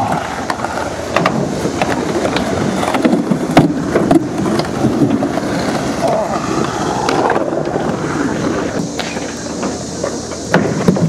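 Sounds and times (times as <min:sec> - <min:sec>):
skateboard clacks: 0:00.0 - 0:11.0
skateboard wheels rolling on concrete: 0:00.0 - 0:11.0.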